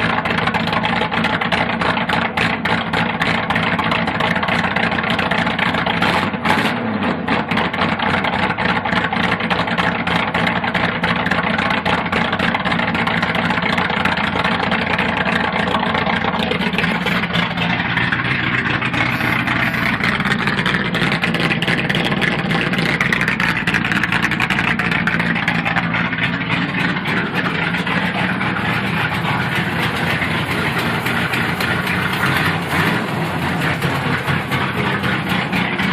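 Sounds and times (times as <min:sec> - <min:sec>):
v-eight engine idling: 0:00.0 - 0:35.9.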